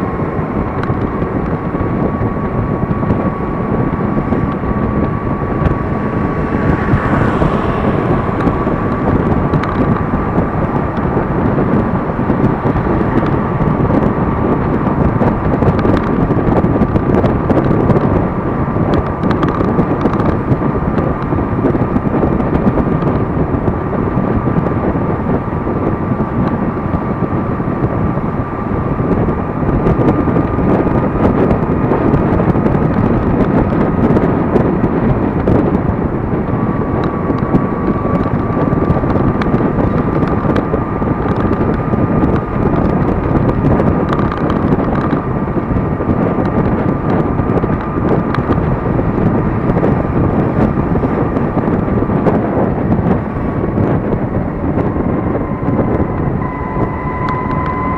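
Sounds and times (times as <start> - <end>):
scooter road noise: 0.0 - 57.9
thin steady whine: 0.0 - 57.9
wind over microphone: 0.0 - 57.9.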